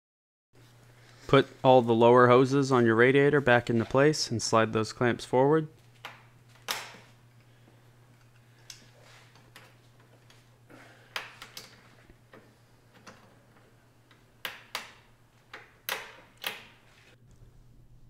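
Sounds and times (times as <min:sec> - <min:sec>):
faint steady hum: 0:00.6 - 0:18.0.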